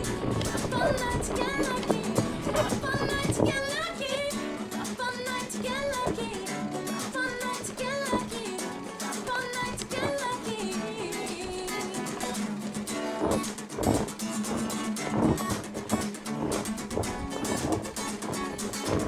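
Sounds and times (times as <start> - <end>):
song with guitar and beat: 0.0 - 19.0.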